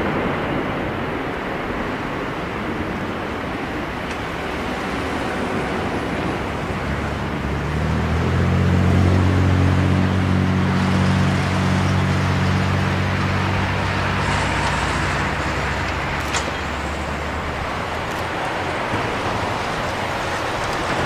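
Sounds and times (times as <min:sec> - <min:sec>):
deep steady rumble: 0:00.0 - 0:21.0
jet engines at takeoff thrust: 0:00.0 - 0:21.0.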